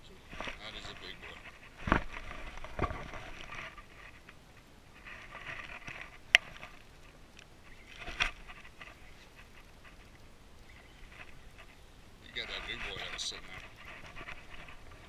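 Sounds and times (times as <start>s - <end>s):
light patter: 0.0s - 15.0s.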